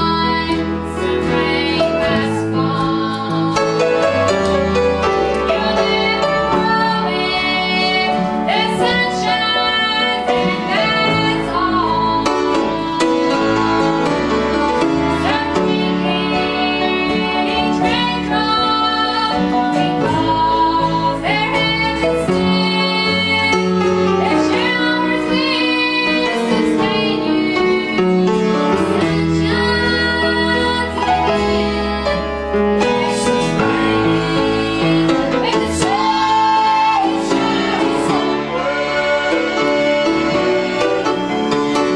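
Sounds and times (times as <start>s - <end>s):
woman singing into a microphone: 0.0s - 4.1s, 5.4s - 13.7s, 15.2s - 40.3s
band accompaniment: 0.0s - 41.9s
grand piano: 0.0s - 41.9s.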